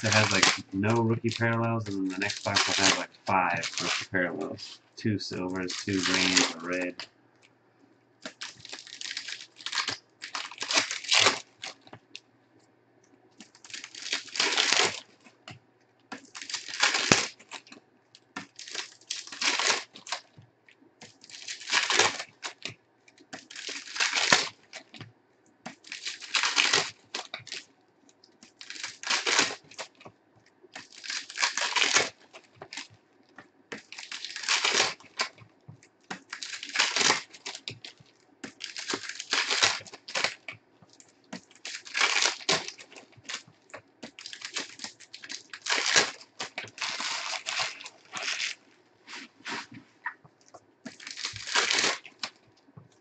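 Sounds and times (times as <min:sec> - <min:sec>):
foil wrappers ripping and crumpling: 0:00.0 - 0:07.0, 0:08.3 - 0:12.0, 0:13.4 - 0:15.3, 0:16.1 - 0:17.8, 0:18.4 - 0:20.3, 0:21.0 - 0:25.0, 0:25.7 - 0:27.7, 0:28.4 - 0:30.1, 0:30.7 - 0:33.0, 0:33.7 - 0:35.5, 0:36.1 - 0:49.8, 0:50.9 - 0:53.0.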